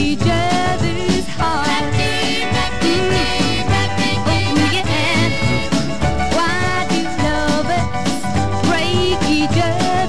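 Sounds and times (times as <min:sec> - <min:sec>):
pop band with steady beat: 0:00.0 - 0:10.0.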